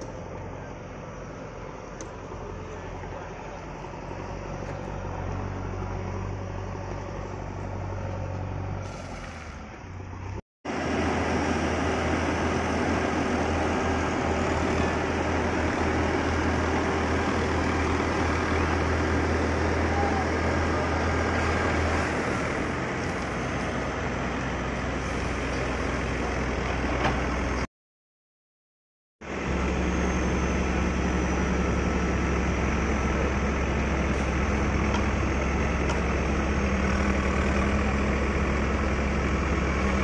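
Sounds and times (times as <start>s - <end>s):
outdoor background rumble: 0.0s - 27.7s, 29.2s - 40.0s.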